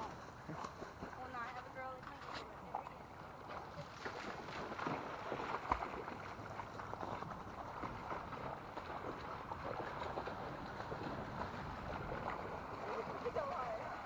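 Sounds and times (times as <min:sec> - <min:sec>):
dogs splashing in water: 0:00.0 - 0:14.0.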